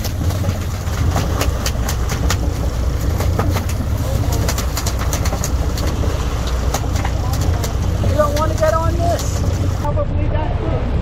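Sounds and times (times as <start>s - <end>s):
sharp clicks and ticks: 0.0s - 9.7s
boat engine running: 0.0s - 11.0s.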